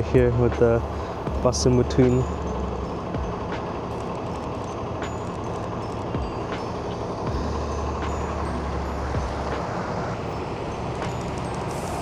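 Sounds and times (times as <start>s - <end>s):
deep engine hum: 0.0s - 12.0s
passing vehicles rumble: 0.0s - 12.0s.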